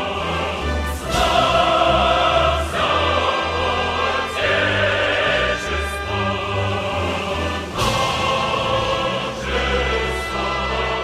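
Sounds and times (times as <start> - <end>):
choir singing with orchestra: 0.0 - 11.0.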